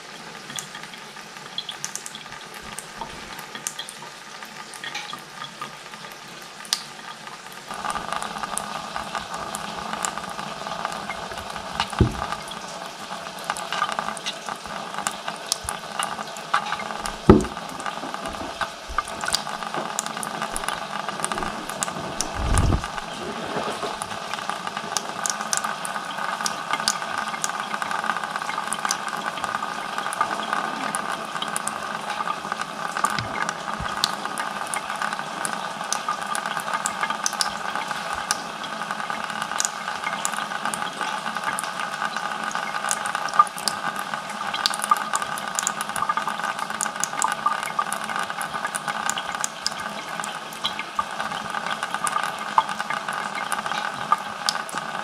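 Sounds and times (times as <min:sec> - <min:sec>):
small water splashes and drips: 0:00.4 - 0:23.2, 0:23.9 - 0:55.0
water running from tap into sink: 0:00.4 - 0:55.0.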